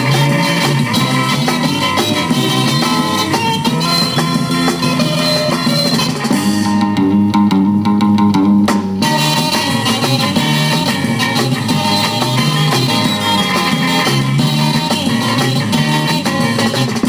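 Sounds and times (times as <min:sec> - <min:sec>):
rock music with guitar and bass: 0:00.0 - 0:17.0.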